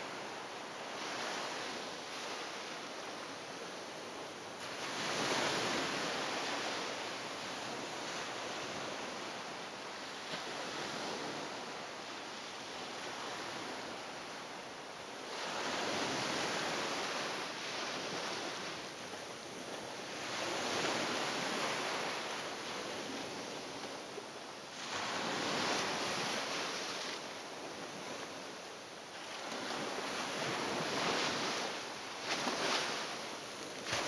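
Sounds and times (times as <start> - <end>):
sea waves washing against shore: 0.0 - 34.0.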